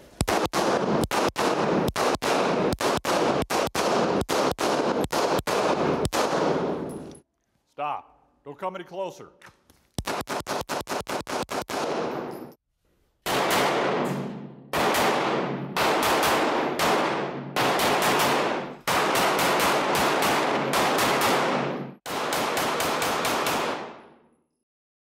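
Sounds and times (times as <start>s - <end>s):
pistol shots echoing indoors: 0.1s - 7.2s, 10.0s - 12.5s, 13.2s - 24.4s.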